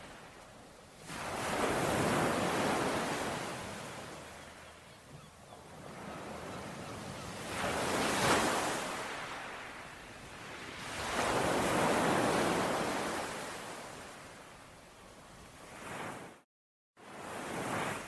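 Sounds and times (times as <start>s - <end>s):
ocean waves washing ashore: 0.0s - 16.4s, 17.0s - 18.0s.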